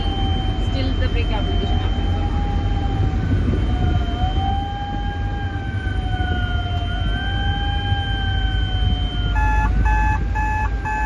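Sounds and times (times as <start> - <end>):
locomotive rumble and whine: 0.0 - 11.0.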